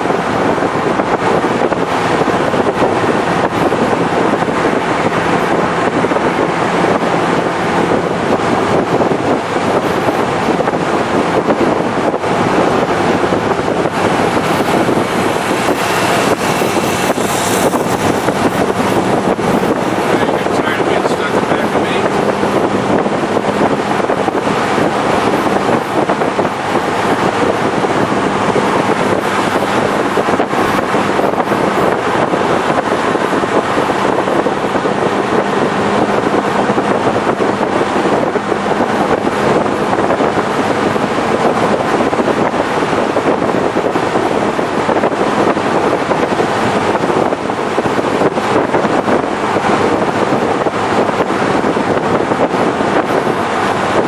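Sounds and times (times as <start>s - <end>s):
car engine running: 0.0s - 54.0s
wind and road noise: 0.0s - 54.0s.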